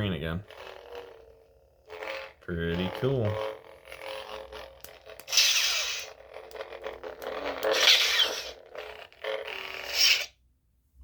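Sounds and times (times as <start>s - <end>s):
lightsaber humming: 0.0s - 10.3s.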